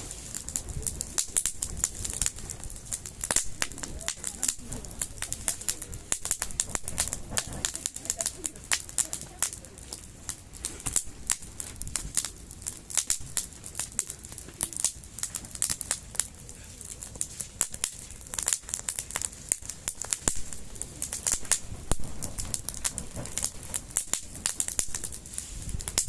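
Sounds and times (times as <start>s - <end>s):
campfire crackling and snapping: 0.0s - 26.0s
low fire hiss: 0.0s - 26.0s.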